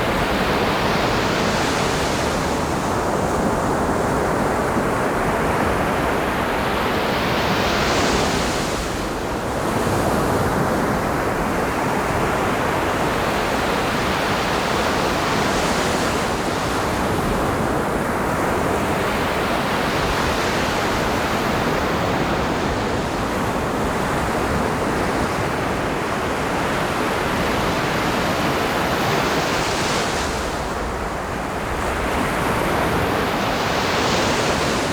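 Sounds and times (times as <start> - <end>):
waves breaking on beach: 0.0 - 34.9.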